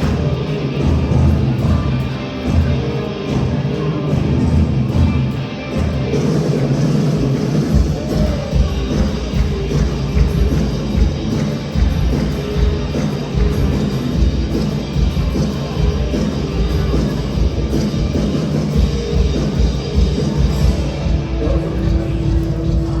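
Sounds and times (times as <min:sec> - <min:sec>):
church band playing rock music: 0:00.0 - 0:23.0
drum kit: 0:00.0 - 0:23.0
guitar: 0:00.0 - 0:23.0.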